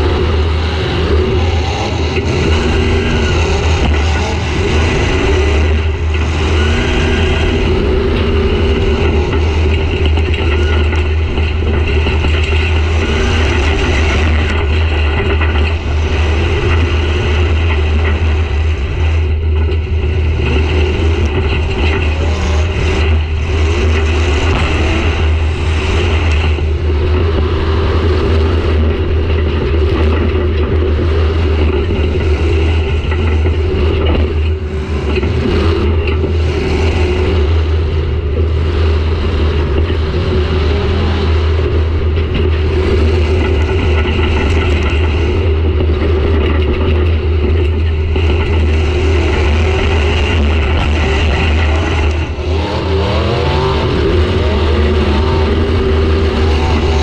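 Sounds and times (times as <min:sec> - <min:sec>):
car engine running loudly: 0:00.0 - 0:57.0.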